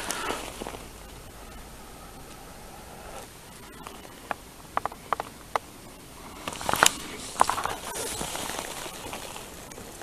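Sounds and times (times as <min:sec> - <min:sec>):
twigs crackling and crunching: 0:00.0 - 0:10.0.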